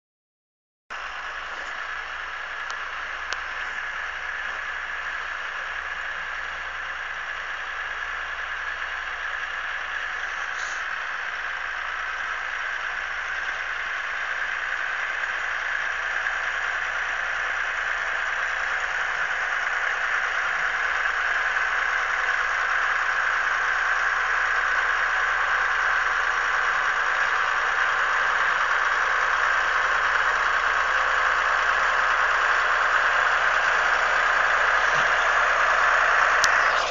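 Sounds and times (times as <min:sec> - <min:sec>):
vehicle engine rushing: 0:00.9 - 0:36.9.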